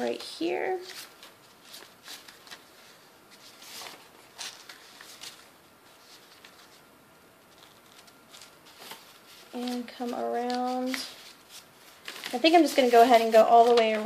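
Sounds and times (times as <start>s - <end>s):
paper strip rustling: 0.8s - 6.8s, 7.5s - 14.0s.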